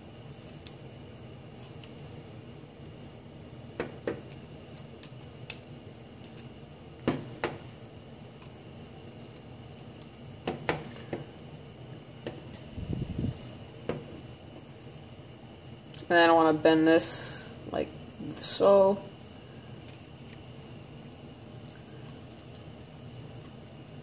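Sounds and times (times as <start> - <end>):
gas burner hissing: 0.0 - 24.0.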